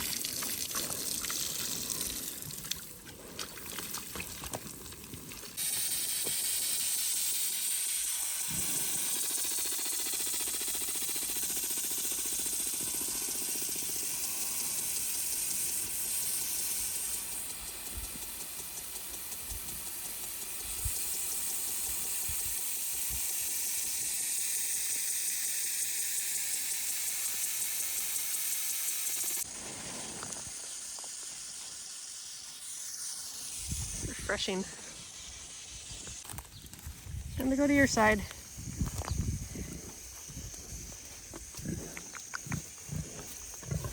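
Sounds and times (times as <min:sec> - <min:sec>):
hose water spraying: 0:00.0 - 0:43.9.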